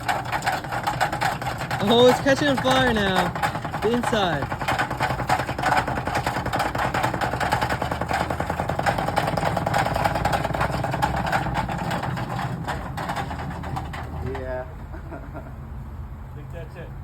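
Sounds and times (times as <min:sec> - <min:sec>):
washing machine humming and rattling: 0:00.0 - 0:15.6.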